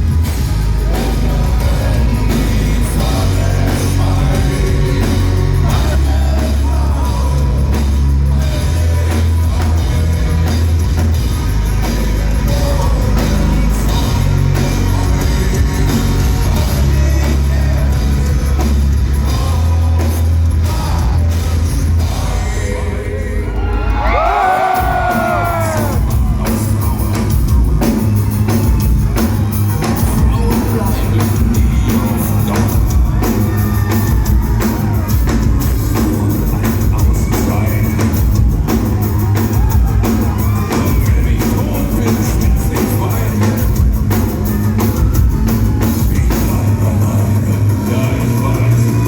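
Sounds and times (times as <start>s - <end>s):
man singing: 0.0s - 28.0s, 28.6s - 49.0s
distorted guitars: 0.0s - 49.0s
pounding drum kit: 0.0s - 49.0s.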